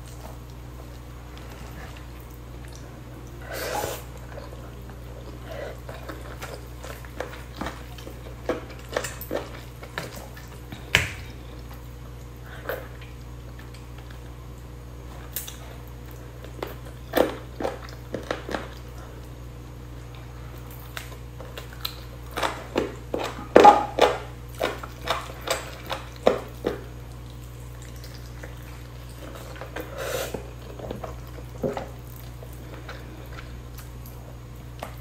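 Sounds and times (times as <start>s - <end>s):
person chewing and lip smacking: 0.0s - 35.0s.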